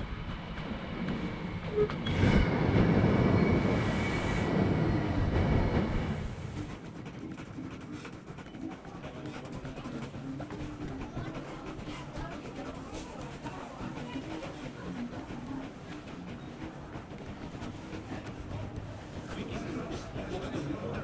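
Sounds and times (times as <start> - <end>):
indoor hall ambience: 0.0 - 21.0.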